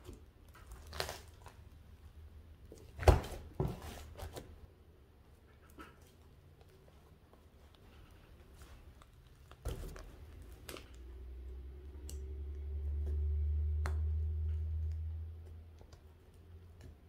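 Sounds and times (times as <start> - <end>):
slime squishing: 0.0 - 4.7, 5.3 - 17.0.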